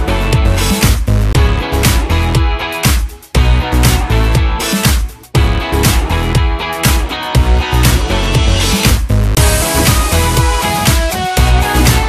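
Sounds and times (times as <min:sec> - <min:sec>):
upbeat music with drums and bass: 0:00.0 - 0:12.0.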